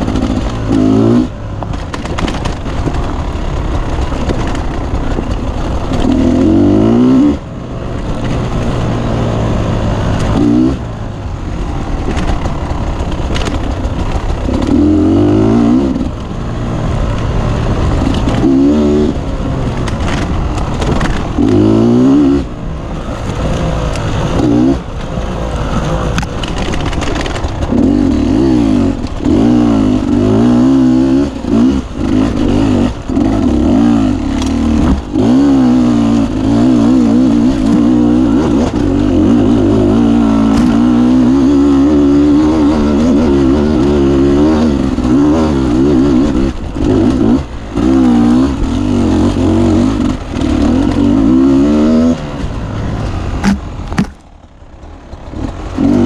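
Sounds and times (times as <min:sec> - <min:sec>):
two-stroke motorbike engine revving: 0:00.0 - 0:56.0.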